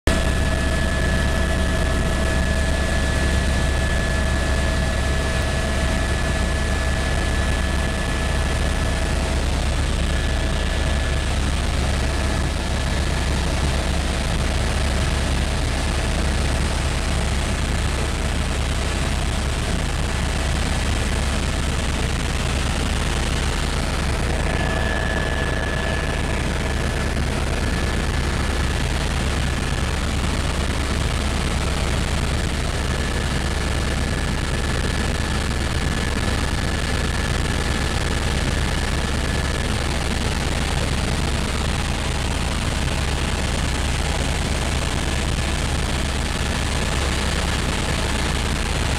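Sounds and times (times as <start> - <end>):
helicopter rotor rumble: 0.1 - 48.9
high whine: 0.1 - 48.9.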